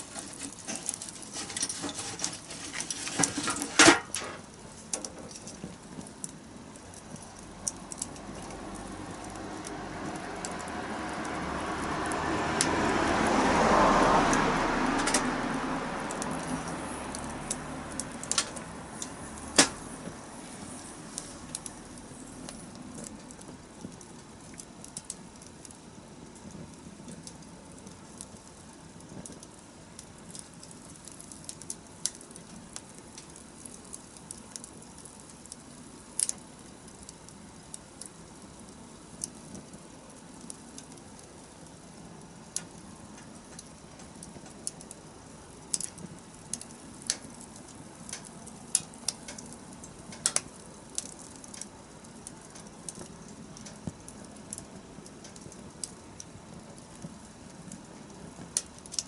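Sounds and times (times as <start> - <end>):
low rush of burning: 0.0 - 59.0
wood fire pops and snaps: 0.0 - 59.0.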